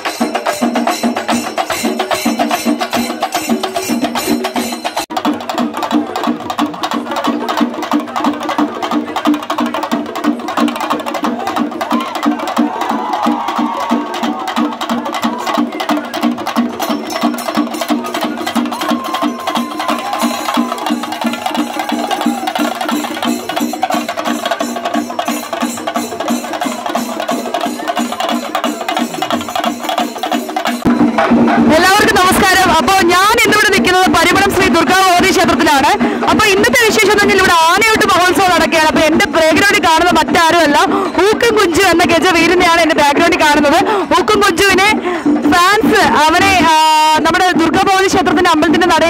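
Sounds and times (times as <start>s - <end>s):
drums beaten with sticks: 0.0s - 49.0s.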